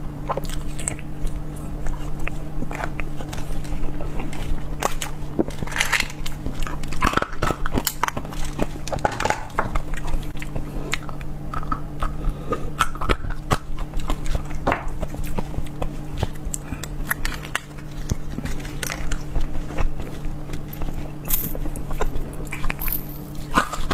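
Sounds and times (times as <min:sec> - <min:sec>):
biting and chewing food: 0:00.0 - 0:23.9
steady low hum: 0:00.0 - 0:23.9.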